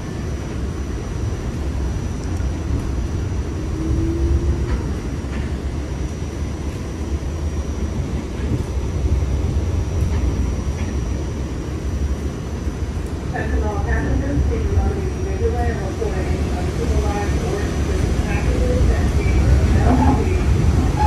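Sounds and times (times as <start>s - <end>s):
train car rumble: 0.0s - 21.0s.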